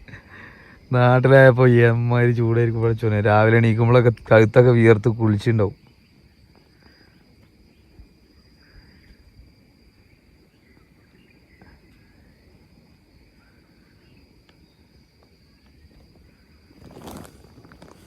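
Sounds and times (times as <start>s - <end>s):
cricket trill: 0.0s - 18.0s
faint insect calls: 0.0s - 18.0s.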